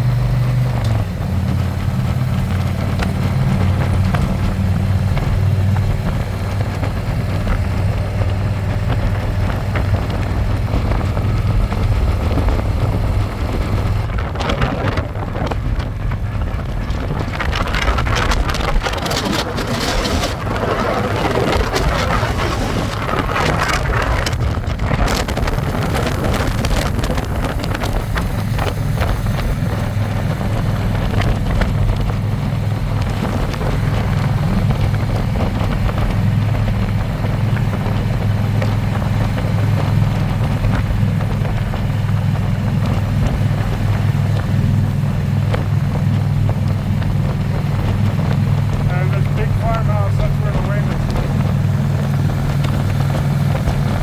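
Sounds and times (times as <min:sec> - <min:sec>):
motorcycle engine cruising: 0:00.0 - 0:54.0
wind rushing over microphone: 0:00.0 - 0:54.0.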